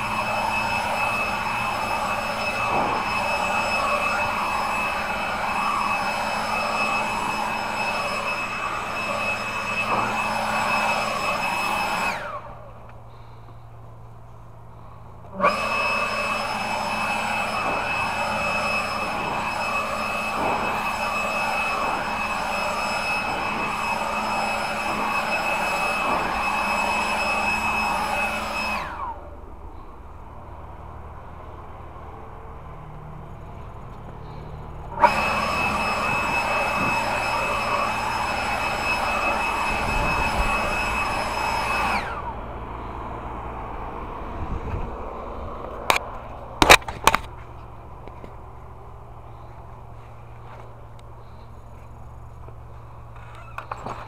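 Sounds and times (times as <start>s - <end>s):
power tool motor whining: 0.0s - 13.6s, 14.7s - 29.9s, 33.2s - 43.1s, 49.2s - 54.0s.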